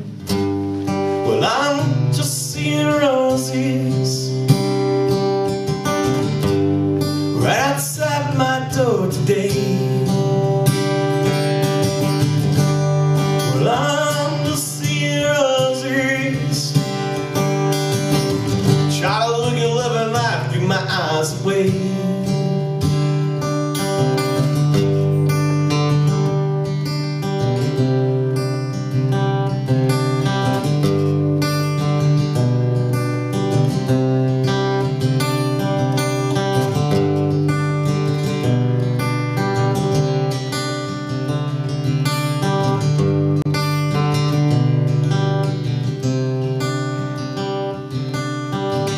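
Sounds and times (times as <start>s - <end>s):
acoustic guitar strumming: 0.0s - 48.9s.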